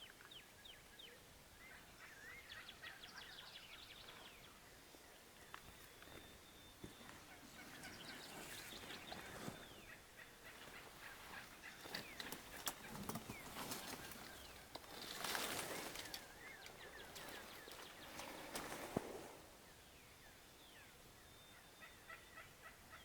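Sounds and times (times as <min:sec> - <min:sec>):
songbirds chirping: 0:00.0 - 0:23.0
wild turkey gobbling faintly: 0:01.1 - 0:19.6.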